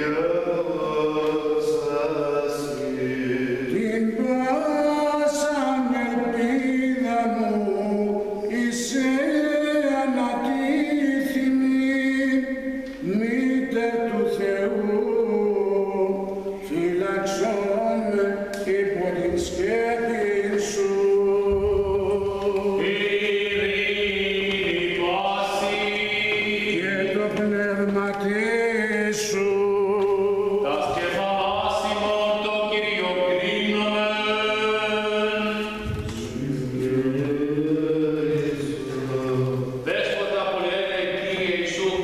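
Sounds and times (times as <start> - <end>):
men singing unaccompanied chant: 0.0 - 42.0.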